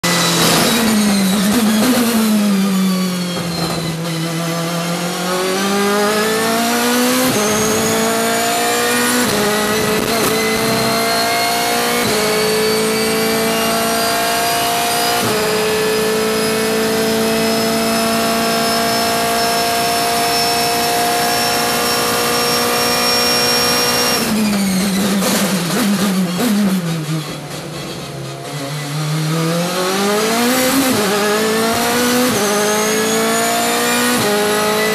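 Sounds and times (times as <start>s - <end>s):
race car engine at full pace: 0.0s - 34.9s.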